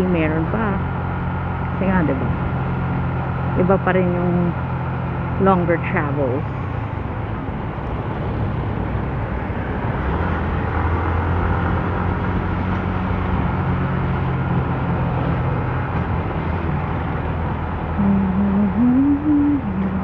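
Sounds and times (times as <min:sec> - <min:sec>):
motorcycle engine running: 0:00.0 - 0:07.6, 0:11.1 - 0:20.0
road and wind noise: 0:00.0 - 0:20.0.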